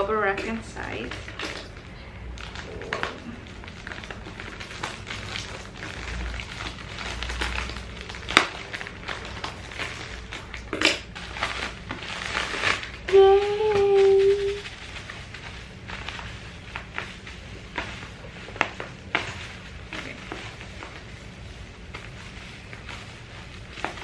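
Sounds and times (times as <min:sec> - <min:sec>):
bubble wrap crinkling: 0:00.0 - 0:24.0.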